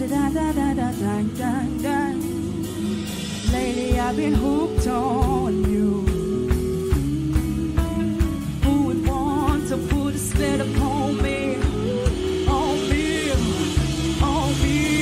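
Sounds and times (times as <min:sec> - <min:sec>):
drum kit beat: 0:00.0 - 0:15.0
electric bass: 0:00.0 - 0:15.0
people singing with vibrato: 0:00.0 - 0:15.0.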